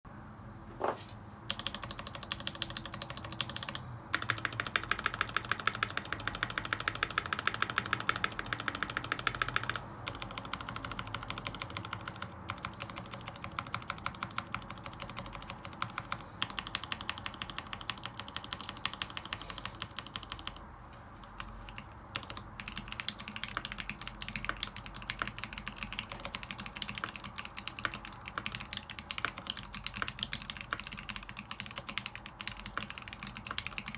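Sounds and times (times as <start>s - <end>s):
fast mechanical keyboard typing: 1.5s - 20.6s, 21.2s - 33.9s.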